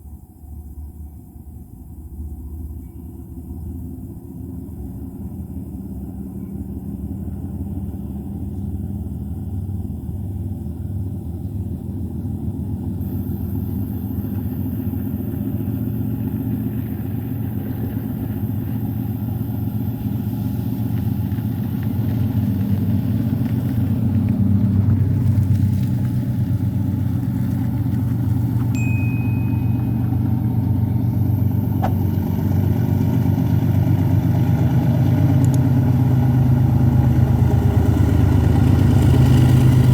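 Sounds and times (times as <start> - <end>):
diesel locomotive engines throbbing: 0.0 - 39.9.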